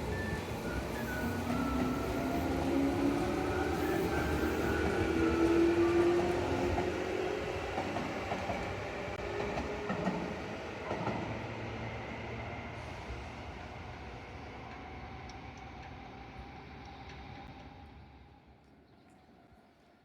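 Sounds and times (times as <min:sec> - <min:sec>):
train running on track: 0:00.0 - 0:18.6.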